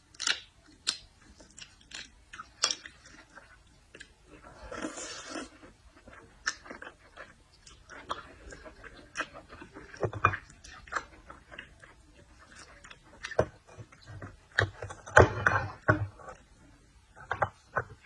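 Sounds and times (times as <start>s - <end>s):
person chewing seafood: 0.0s - 18.0s.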